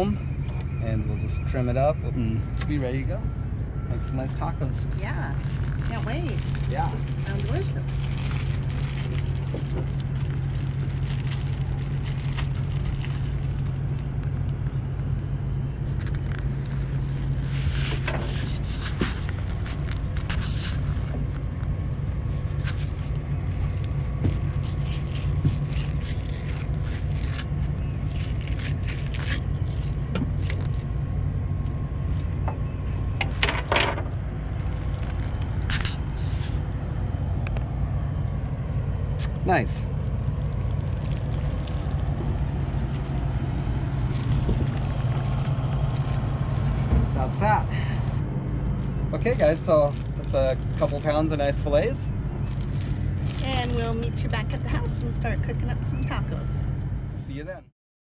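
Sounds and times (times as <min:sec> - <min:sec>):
low engine hum: 0:00.0 - 0:57.7.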